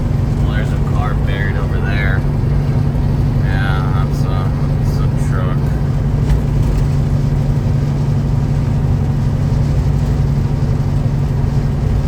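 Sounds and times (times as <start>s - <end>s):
diesel truck engine droning: 0.0s - 12.0s
road noise: 0.0s - 12.0s.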